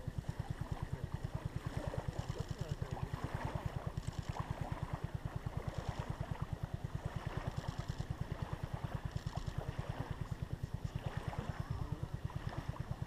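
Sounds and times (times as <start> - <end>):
distant engine running: 0.0 - 13.0.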